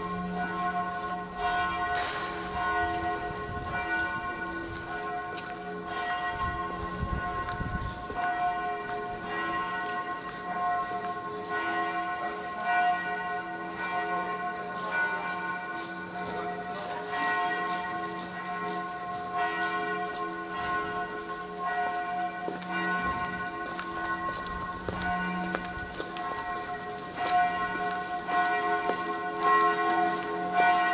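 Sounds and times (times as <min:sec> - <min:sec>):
church bells ringing in a peal: 0:00.0 - 0:30.9.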